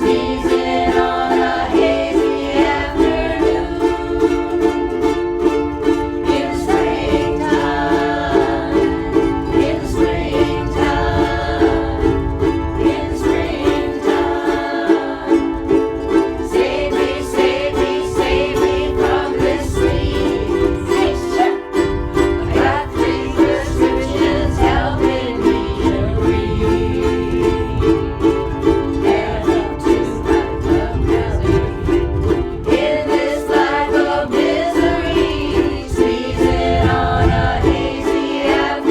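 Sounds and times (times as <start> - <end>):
ukuleles strumming chords: 0.0 - 38.9
voices singing along: 0.0 - 38.9.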